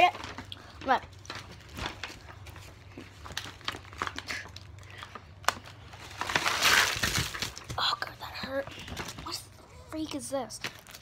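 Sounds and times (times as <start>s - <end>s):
crinkling handling noise: 0.0s - 11.0s.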